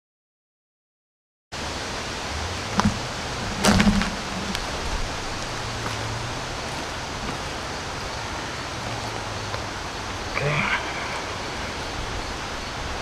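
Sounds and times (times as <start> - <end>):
outdoor background hiss: 1.6 - 13.0.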